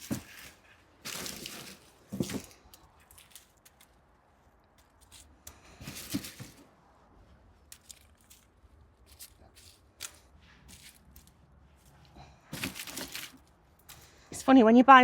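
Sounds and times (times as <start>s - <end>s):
crunching and rustling of bulbs and soil: 0.0s - 15.0s.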